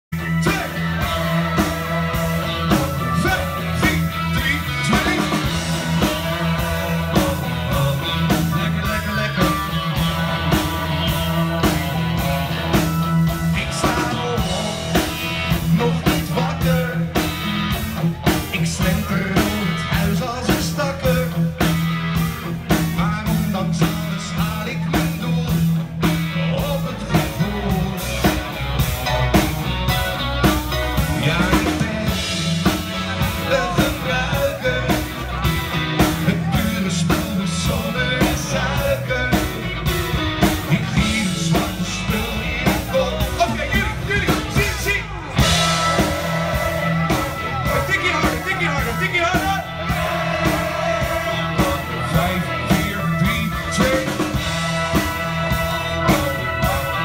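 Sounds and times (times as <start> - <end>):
live band playing: 0.1 - 57.0
man singing into microphone: 0.2 - 17.3, 18.2 - 21.6, 22.7 - 28.5, 31.0 - 57.0.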